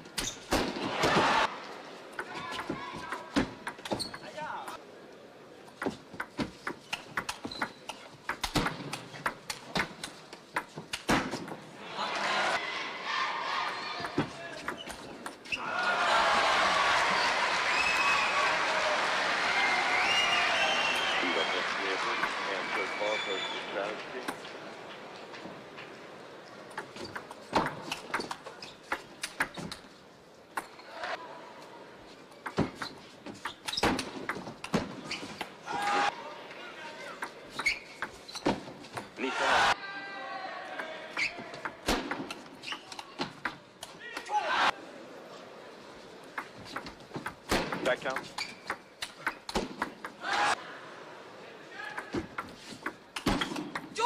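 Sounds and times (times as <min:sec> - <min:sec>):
crowd noise: 0:00.0 - 0:54.0
hall background noise: 0:00.0 - 0:54.0.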